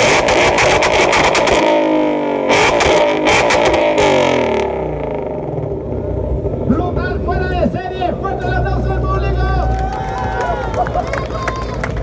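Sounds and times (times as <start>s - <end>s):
car engine revving hard: 0.0s - 9.8s.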